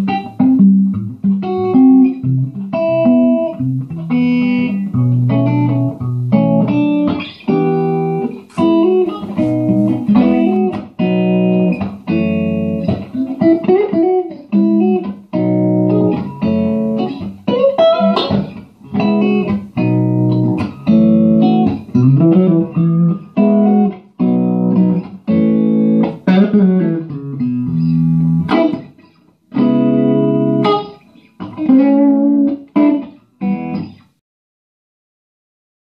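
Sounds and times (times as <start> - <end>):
electric guitar chords and phrases: 0.0 - 34.2.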